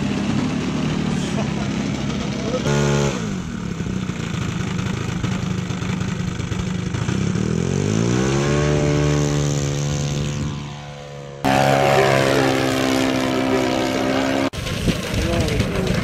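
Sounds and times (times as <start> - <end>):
model airplane engine: 0.0 - 16.0.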